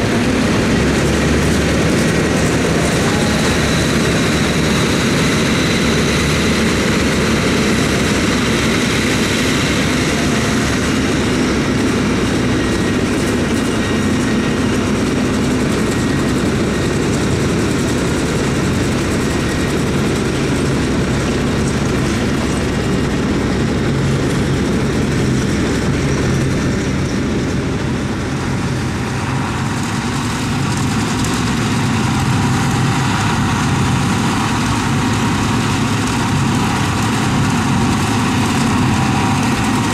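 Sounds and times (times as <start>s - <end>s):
forage harvester cutting and blowing: 0.0s - 39.9s
tractor engine hum: 0.0s - 39.9s.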